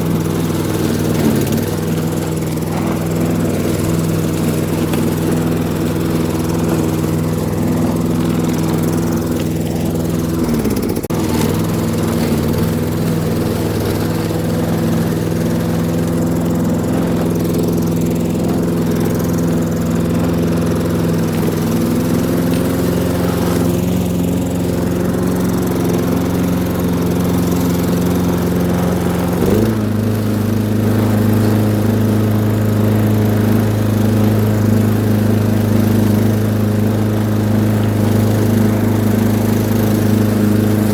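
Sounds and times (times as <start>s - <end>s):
lawn mower cutting grass: 0.0s - 40.9s.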